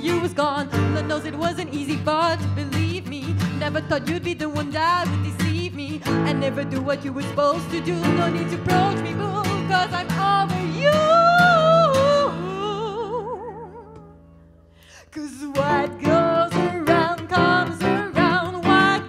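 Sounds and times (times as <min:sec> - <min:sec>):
strummed acoustic guitar: 0:00.0 - 0:14.5, 0:15.5 - 0:19.0
woman singing: 0:00.0 - 0:19.0.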